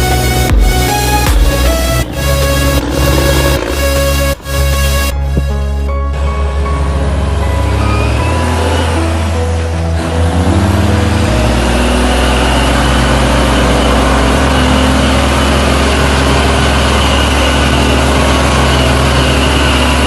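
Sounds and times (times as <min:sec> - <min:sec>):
music of held low notes: 0:00.0 - 0:17.9
heavy truck engine running: 0:00.0 - 0:20.0.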